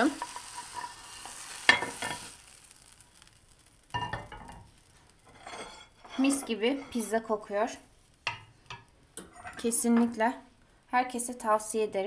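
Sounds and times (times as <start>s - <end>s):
frying pan sizzle: 0.0s - 10.3s.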